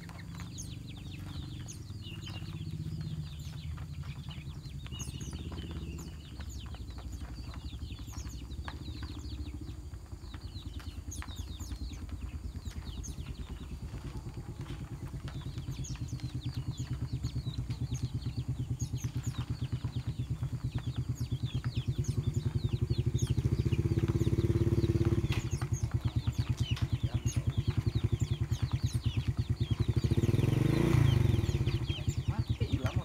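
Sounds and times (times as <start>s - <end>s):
small birds chirping: 0.0s - 33.0s
small engine puttering: 0.0s - 33.0s.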